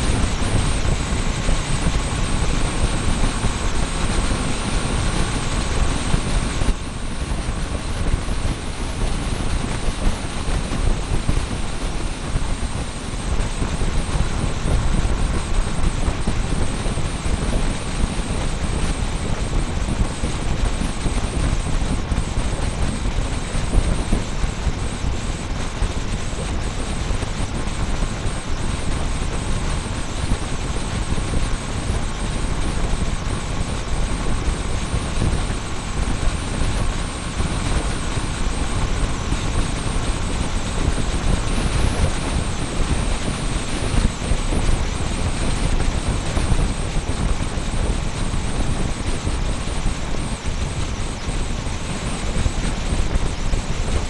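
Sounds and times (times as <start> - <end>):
motorbike engine running: 0.0 - 54.0
wind buffeting on microphone: 0.0 - 54.0.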